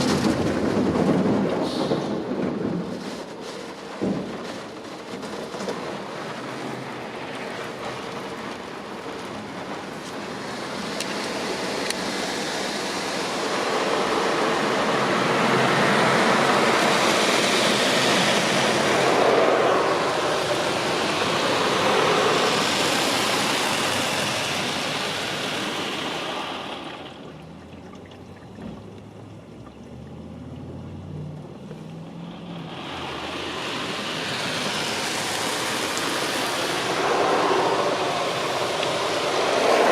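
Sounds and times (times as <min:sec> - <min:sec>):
car wash spraying water: 0:00.0 - 0:27.6, 0:31.5 - 0:39.9.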